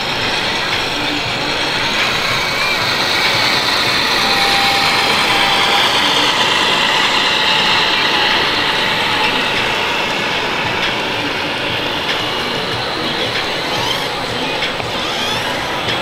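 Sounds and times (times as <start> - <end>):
model tractor motors whirring: 0.0 - 16.0
thin steady tone: 0.0 - 16.0.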